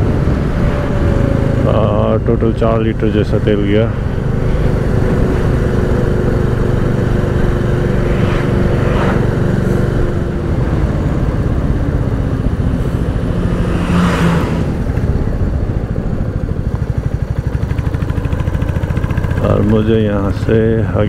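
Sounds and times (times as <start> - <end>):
wind rush on camera: 0.0 - 19.4
motorcycle engine running: 0.0 - 21.0.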